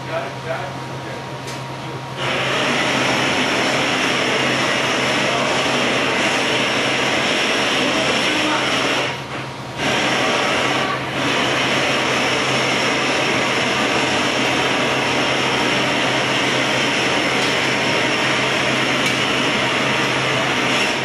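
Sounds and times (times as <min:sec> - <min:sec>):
gas burners roaring: 0:00.0 - 0:21.0.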